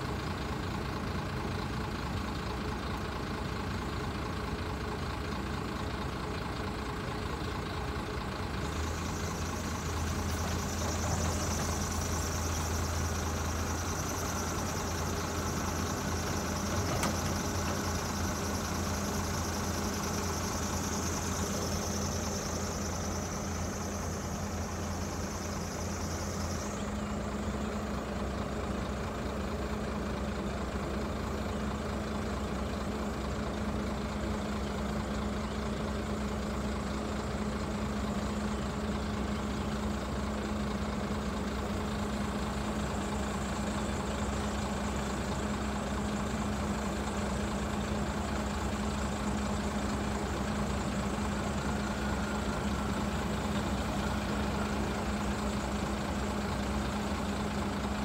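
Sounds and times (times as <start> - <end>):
diesel engines idling: 0.0 - 58.0.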